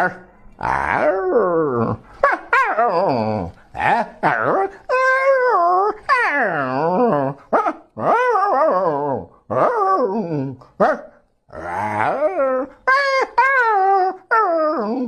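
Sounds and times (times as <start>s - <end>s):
person mimicking dog whines and howls: 0.0s - 15.0s.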